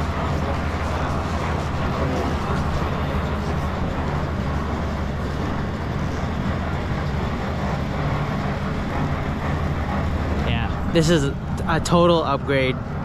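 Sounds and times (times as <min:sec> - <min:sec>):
low machine-like rumble: 0:00.0 - 0:13.0.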